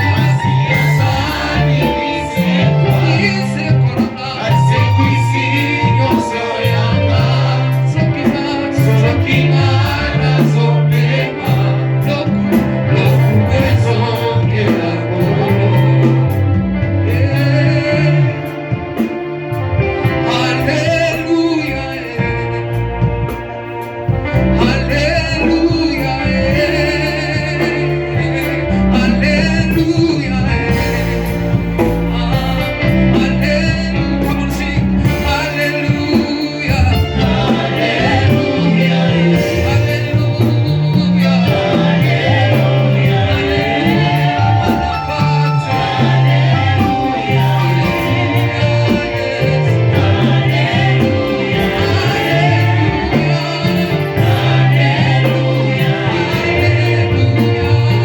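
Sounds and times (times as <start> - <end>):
gospel singing: 0.0 - 58.0
instrumental accompaniment: 0.0 - 58.0
low bass notes: 0.0 - 58.0.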